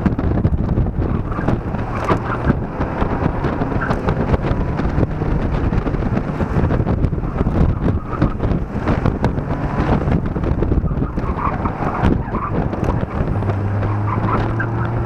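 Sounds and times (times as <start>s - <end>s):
car engine running: 0.0s - 15.0s
wind buffeting on microphone: 0.0s - 15.0s.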